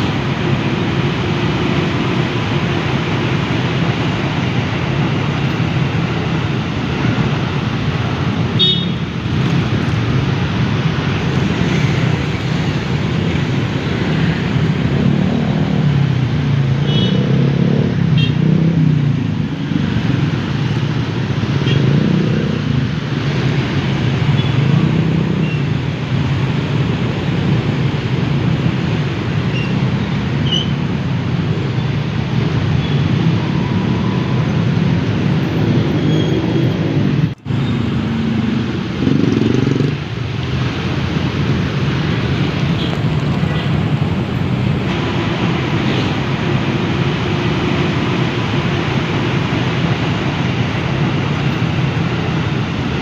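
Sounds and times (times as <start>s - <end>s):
vehicle engine and road noise: 0.0s - 53.0s.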